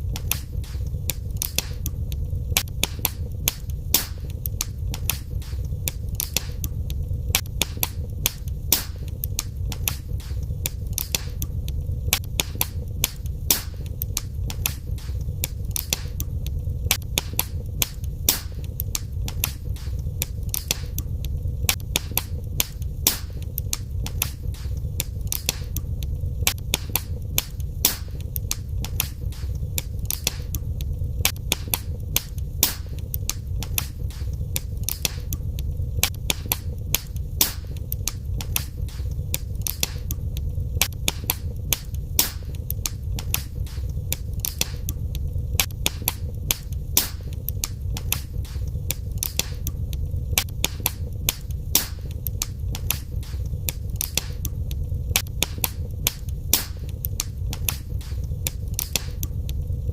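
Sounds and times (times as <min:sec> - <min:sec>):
fire flames rumbling: 0:00.0 - 0:59.9
fire pops and snaps: 0:00.0 - 0:59.9.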